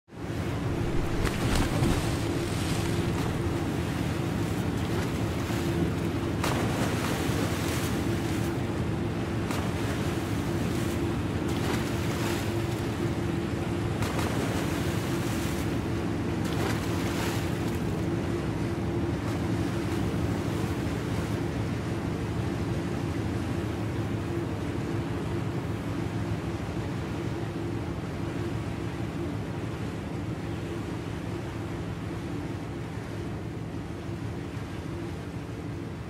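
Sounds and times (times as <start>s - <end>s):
bow wave rushing along hull: 0.2s - 36.0s
low droning hum: 0.2s - 36.0s.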